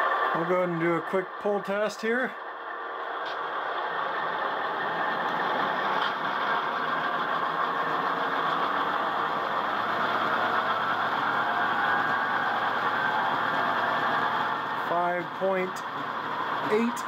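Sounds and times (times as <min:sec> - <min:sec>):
diesel engine sound from small speaker: 0:00.0 - 0:17.0.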